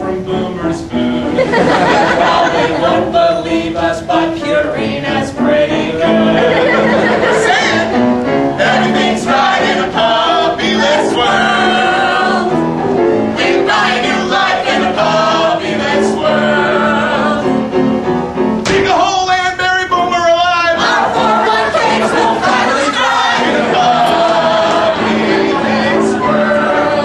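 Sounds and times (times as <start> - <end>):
voices singing a show tune: 0.0 - 12.6, 13.3 - 17.7, 18.7 - 27.0
musical accompaniment: 0.0 - 27.0.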